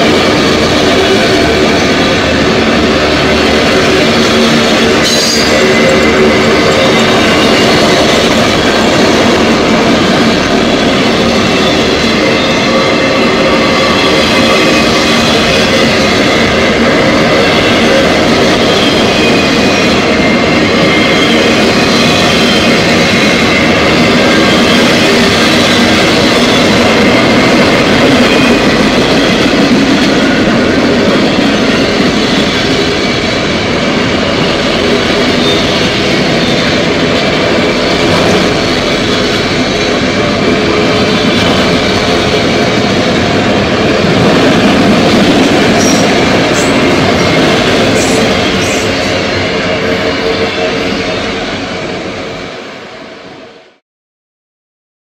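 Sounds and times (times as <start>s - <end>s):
train wheels rumbling on rails: 0.0s - 53.8s.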